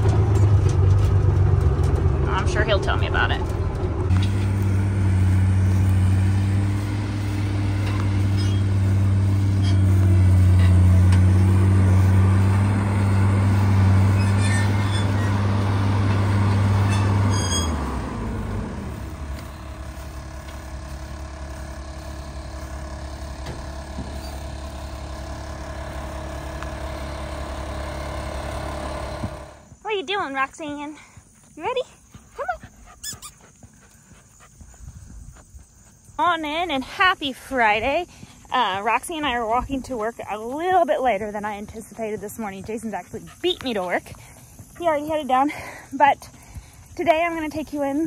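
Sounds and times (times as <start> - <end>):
steady low hum: 0.0 - 48.0
vehicle engine running: 0.0 - 48.0.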